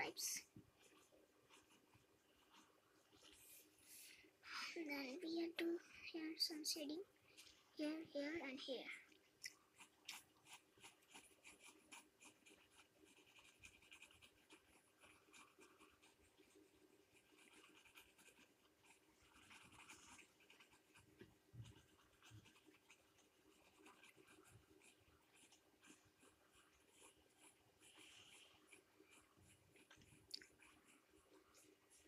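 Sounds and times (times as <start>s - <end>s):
pencil scratching on paper: 0.0s - 3.8s, 9.6s - 32.0s.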